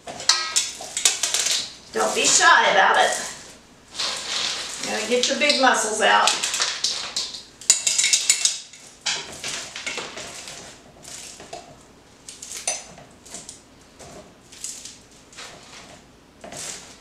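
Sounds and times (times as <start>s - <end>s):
sticky popcorn crunching: 0.0s - 17.0s.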